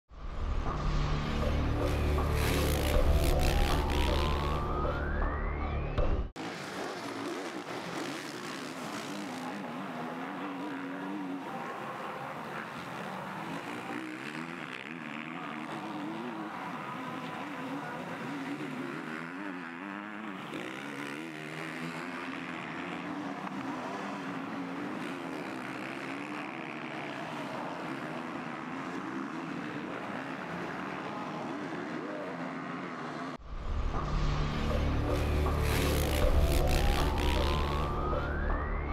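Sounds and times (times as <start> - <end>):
motocross bike engines revving: 1.2 - 5.1, 6.4 - 38.3.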